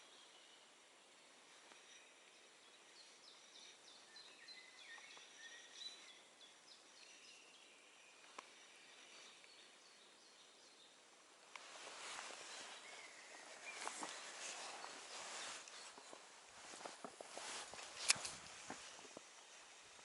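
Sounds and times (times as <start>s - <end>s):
birds chirping: 0.0s - 20.0s
low background hiss: 0.0s - 20.0s.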